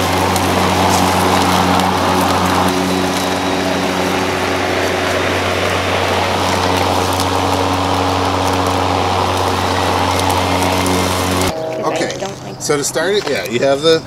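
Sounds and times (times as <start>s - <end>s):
electric lawn mower running: 0.0s - 13.8s.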